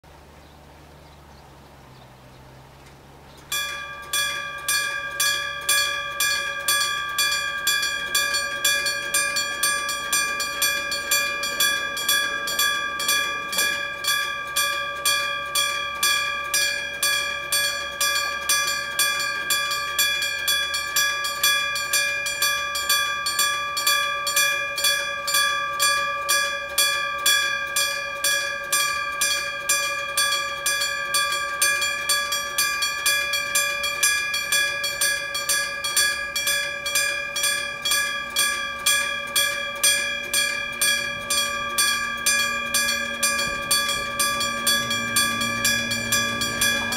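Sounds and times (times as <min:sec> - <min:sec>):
level crossing bell ringing: 0:03.5 - 0:46.9.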